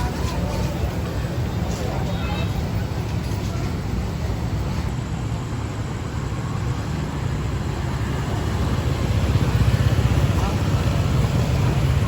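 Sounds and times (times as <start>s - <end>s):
diesel train rumble: 0.0s - 12.0s.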